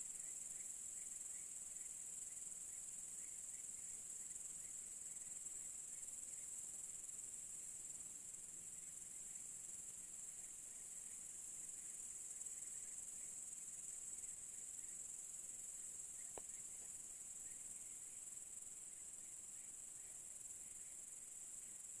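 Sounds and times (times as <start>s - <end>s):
crickets trilling: 0.0s - 22.0s
faint chirps: 0.0s - 22.0s.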